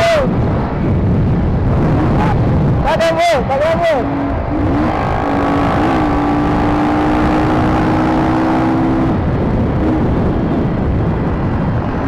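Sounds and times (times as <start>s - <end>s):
motorcycle engines: 0.0s - 12.0s
wind rumble: 0.0s - 12.0s.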